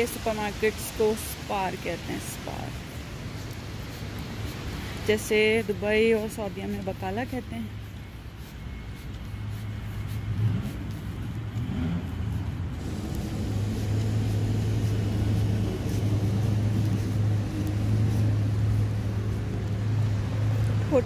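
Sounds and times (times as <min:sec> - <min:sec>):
traffic engine hum: 0:00.0 - 0:21.0
tyres on wet street: 0:00.0 - 0:21.0.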